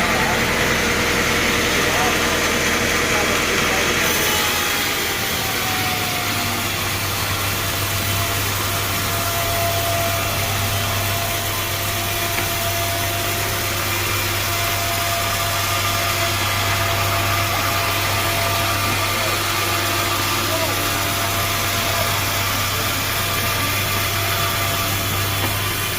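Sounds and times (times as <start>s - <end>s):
sawmill machinery motor drone: 0.0s - 25.9s.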